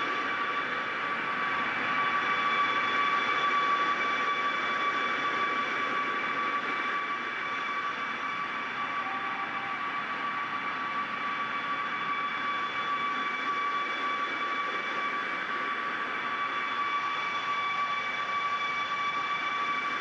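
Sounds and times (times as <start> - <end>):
jet turbines whining: 0.0 - 20.0.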